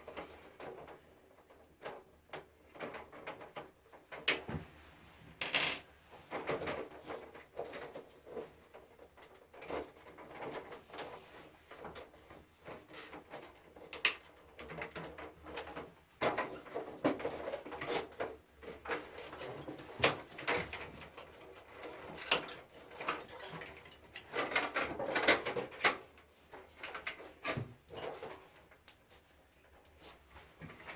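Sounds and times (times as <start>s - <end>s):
plastic parts clicking and scraping: 5.4s - 30.9s.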